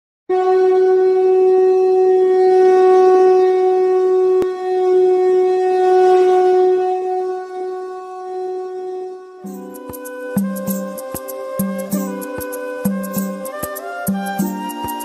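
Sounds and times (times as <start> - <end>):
wind instrument long note: 0.3 - 15.0.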